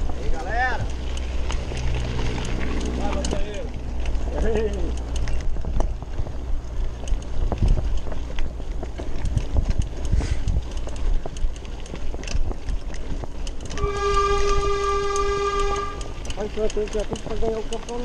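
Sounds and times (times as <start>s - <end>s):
bike rattling over bumps: 0.0s - 18.0s
wind buffeting microphone: 0.0s - 18.0s.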